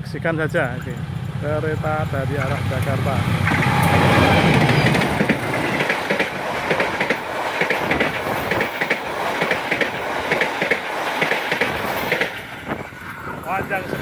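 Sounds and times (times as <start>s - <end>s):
rushing noise of passing train: 0.0s - 14.0s
train wheels clacking over rails: 0.3s - 14.0s.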